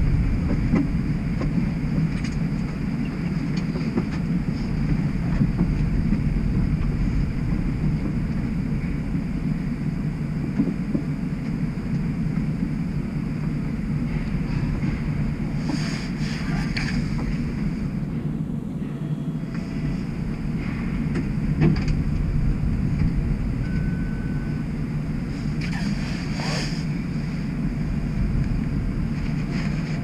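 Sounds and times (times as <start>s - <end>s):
faint high whine: 0.0s - 30.0s
low equipment rumble: 0.0s - 30.0s.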